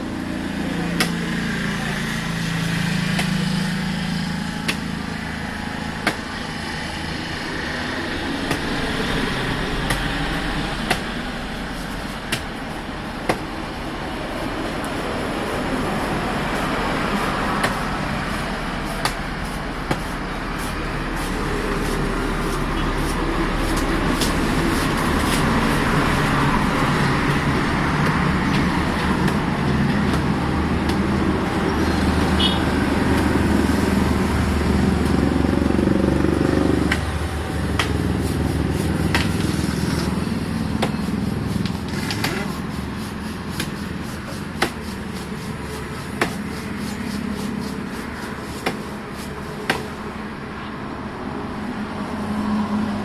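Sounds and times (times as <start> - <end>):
engine running under load: 0.0 - 53.0.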